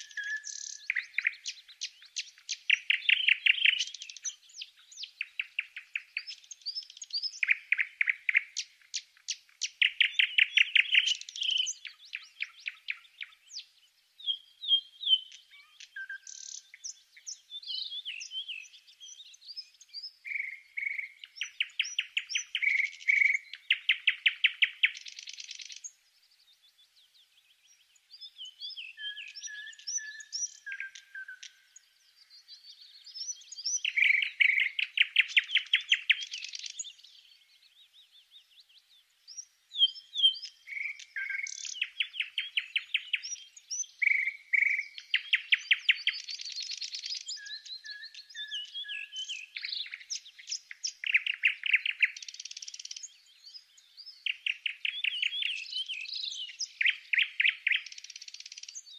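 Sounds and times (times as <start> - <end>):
songbird singing trills: 0.0 - 58.9.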